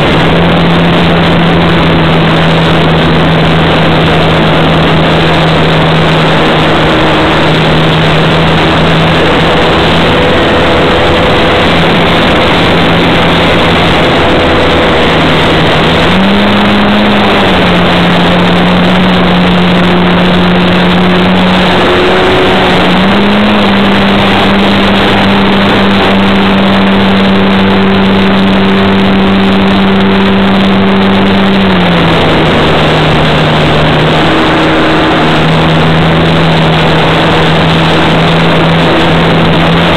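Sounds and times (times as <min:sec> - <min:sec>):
rushing noise: 0:00.0 - 0:39.9.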